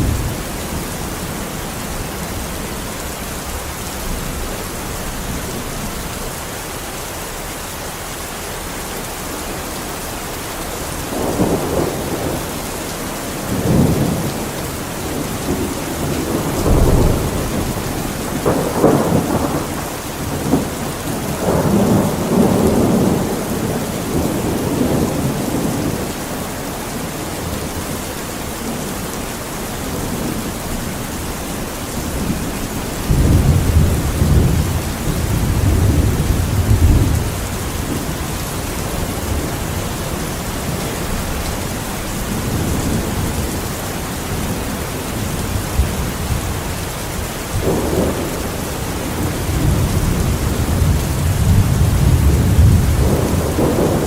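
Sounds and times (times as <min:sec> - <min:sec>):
rolling thunder: 0:00.0 - 0:06.4, 0:10.6 - 0:28.0, 0:29.8 - 0:54.0
heavy rain: 0:00.0 - 0:54.0.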